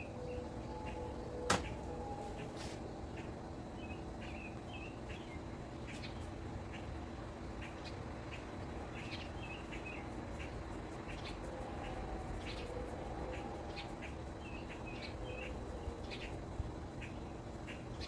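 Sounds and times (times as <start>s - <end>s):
low background rumble: 0.0s - 18.0s
small birds chirping: 0.0s - 18.0s.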